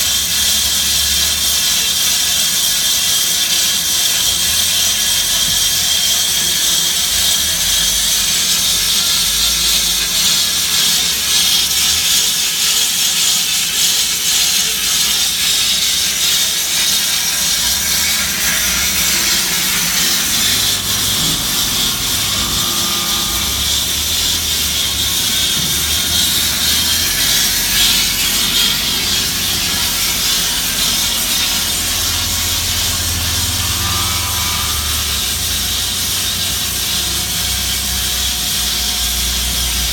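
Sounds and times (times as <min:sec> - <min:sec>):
band saw running: 0:00.0 - 0:39.9.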